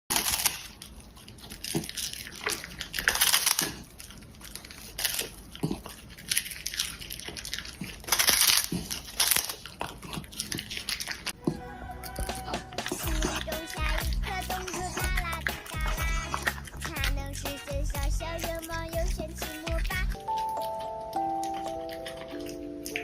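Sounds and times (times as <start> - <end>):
dog crunching plastic packaging: 0.1 - 23.0.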